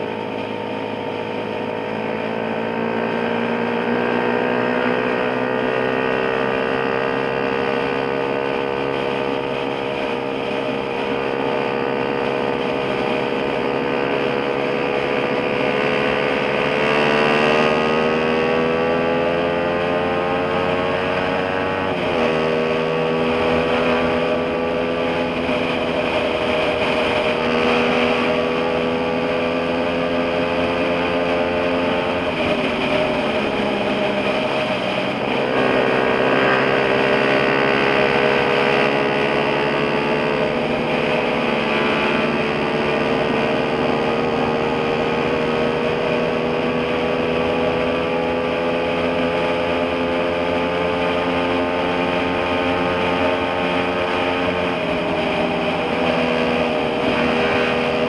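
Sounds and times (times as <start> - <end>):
motorcycle engine cruising: 0.0 - 58.0
wind and road rush: 0.0 - 58.0.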